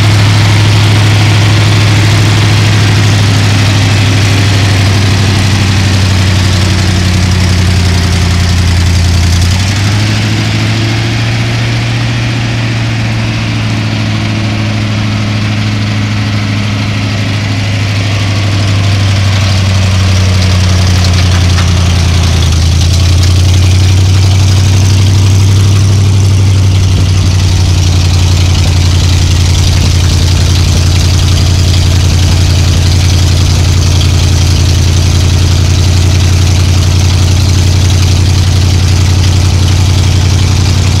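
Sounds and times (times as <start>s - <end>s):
truck engine idling: 0.0s - 41.0s.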